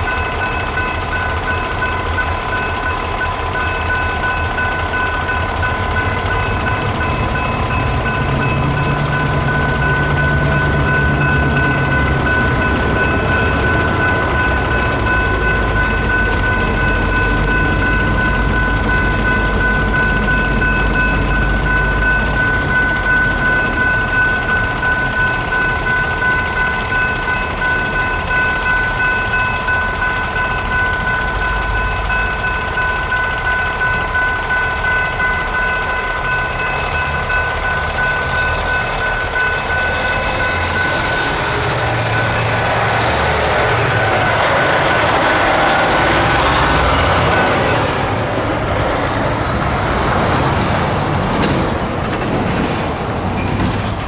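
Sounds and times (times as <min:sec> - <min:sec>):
railroad crossing bells ringing: 0:00.0 - 0:54.0.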